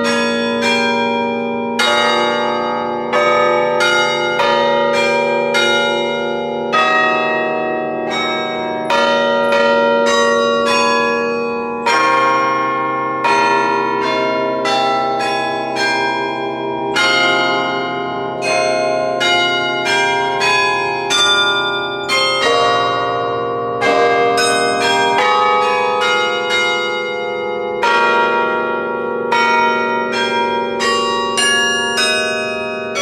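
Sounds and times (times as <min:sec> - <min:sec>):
carillon bells playing slow melody: 0:00.0 - 0:33.0.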